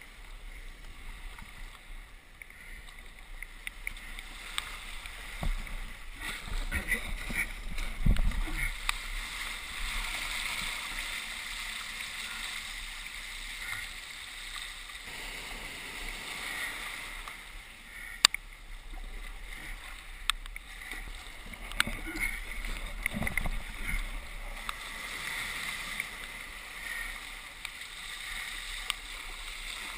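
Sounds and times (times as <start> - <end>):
water current rushing and gurgling: 0.0 - 29.9.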